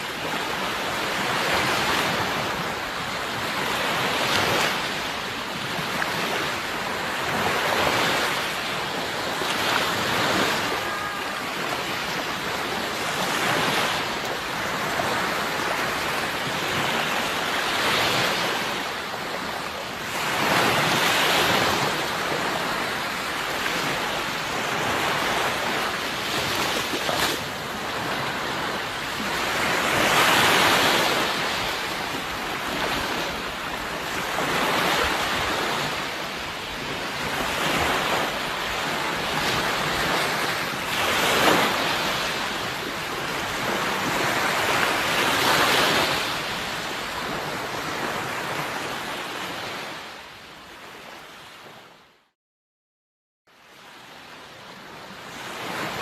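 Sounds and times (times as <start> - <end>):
sea waves breaking on shore: 0.0 - 52.1, 53.5 - 56.0.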